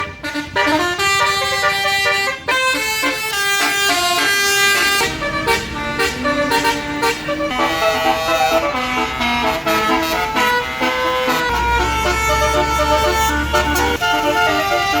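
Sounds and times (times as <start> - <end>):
multi-tone bus air horn melody: 0.0 - 15.0.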